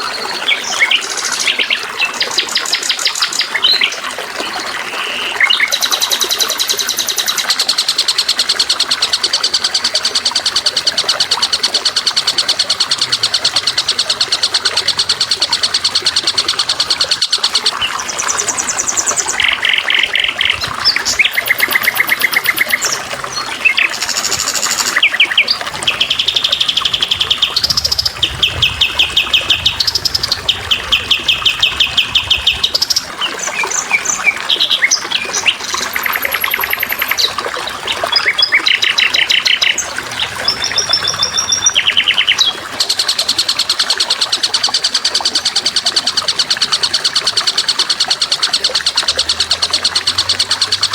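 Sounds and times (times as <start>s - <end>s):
songbirds trilling and chirping: 0.0s - 50.9s
water trickling: 0.0s - 50.9s.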